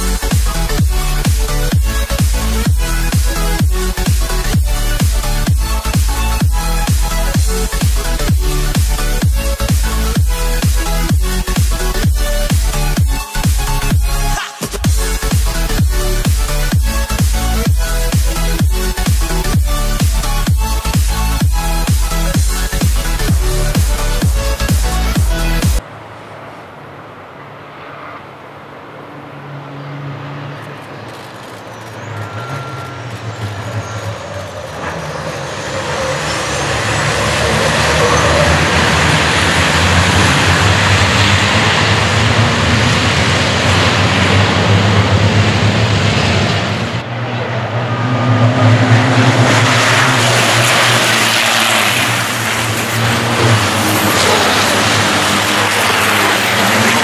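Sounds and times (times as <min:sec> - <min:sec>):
racing truck engines roaring by: 0:00.0 - 0:57.0.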